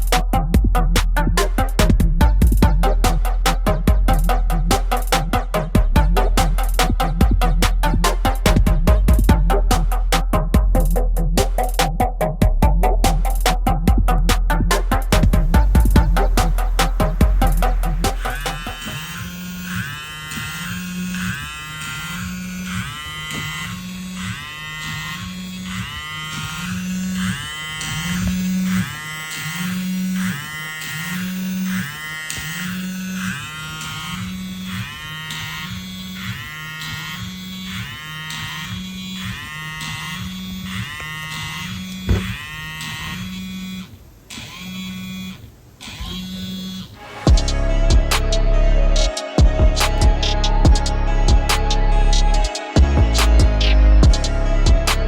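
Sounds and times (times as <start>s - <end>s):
phone vibration buzzing: 0.0s - 11.9s, 13.2s - 55.0s.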